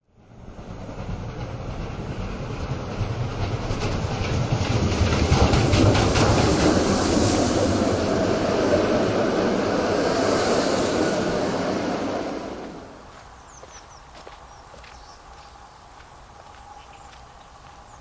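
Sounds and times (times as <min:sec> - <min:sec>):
train rumbling: 0:00.1 - 0:18.0.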